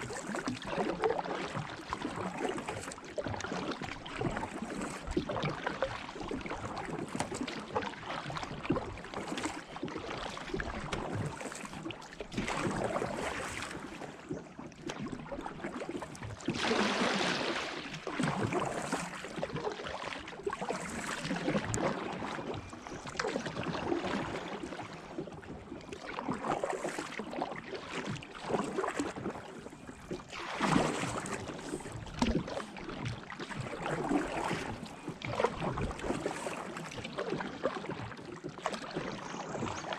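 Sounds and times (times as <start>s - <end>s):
kayak paddle splashing: 0.0s - 39.9s.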